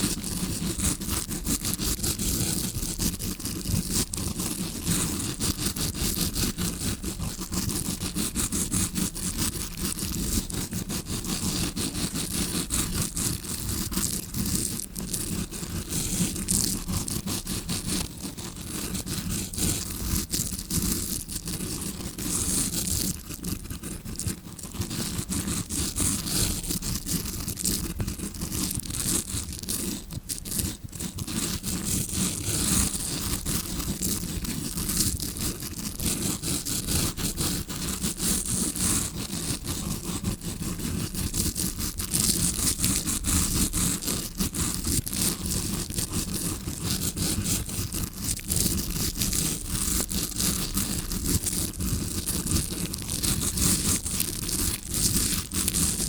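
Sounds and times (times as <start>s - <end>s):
brush scratching against microphone: 0.0s - 56.0s.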